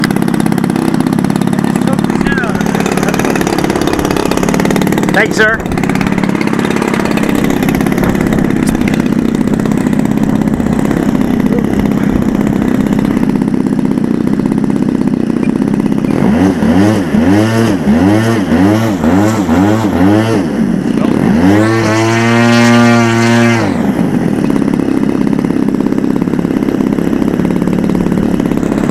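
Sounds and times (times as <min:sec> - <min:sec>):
model aircraft engine running: 0:00.0 - 0:28.9.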